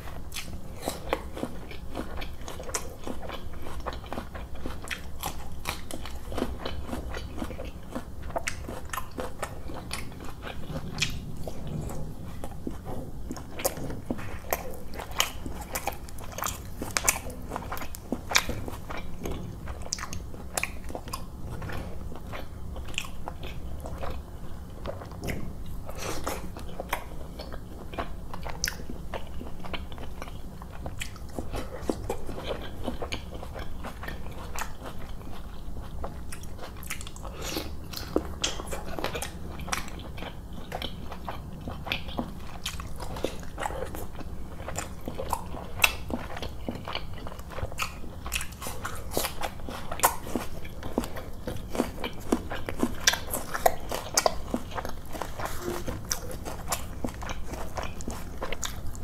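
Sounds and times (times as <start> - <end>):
man chewing and biting food: 0.0 - 59.0
steady low hum: 0.0 - 59.0.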